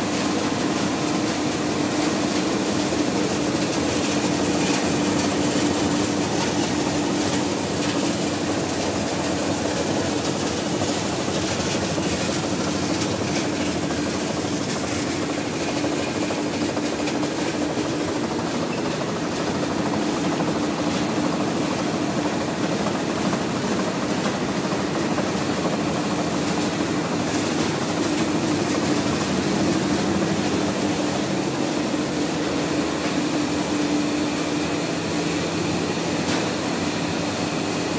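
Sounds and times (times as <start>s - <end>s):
printing press running: 0.0s - 37.9s.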